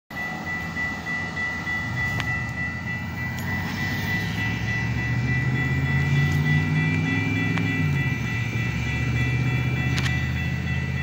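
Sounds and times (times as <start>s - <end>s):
diesel locomotive engine hum: 0.1s - 11.0s
high-pitched tone: 0.1s - 11.0s.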